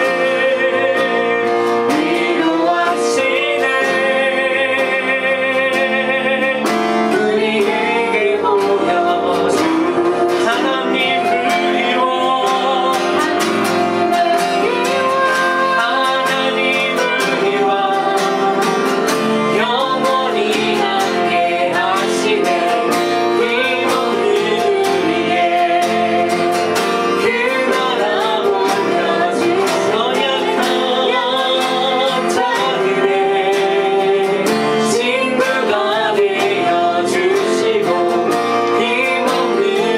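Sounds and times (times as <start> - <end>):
strummed acoustic guitar: 0.0 - 39.9
woman and man singing: 0.0 - 39.9.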